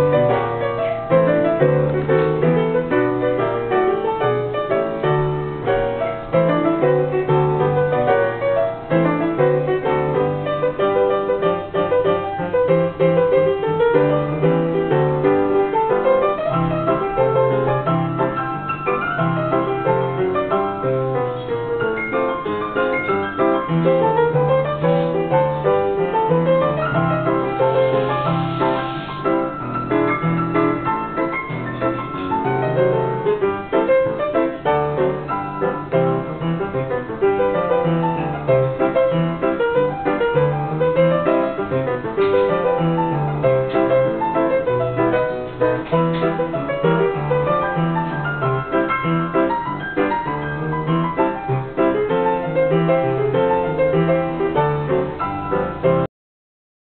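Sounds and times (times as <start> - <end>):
player piano music: 0.0 - 56.1.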